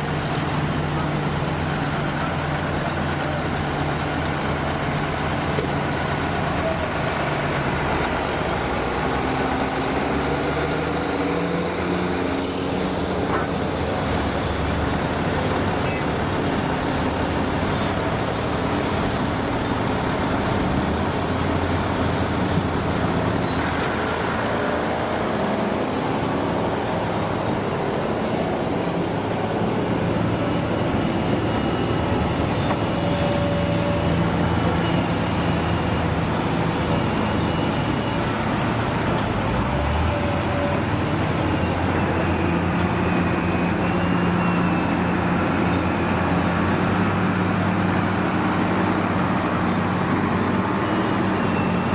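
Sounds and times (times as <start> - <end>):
construction machines running: 0.0 - 51.9
diesel trucks running: 0.0 - 51.9.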